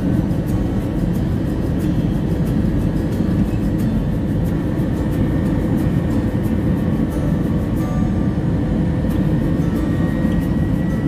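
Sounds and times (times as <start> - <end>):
engine and airflow rumble: 0.0 - 11.0
faint steady tones: 0.0 - 11.0.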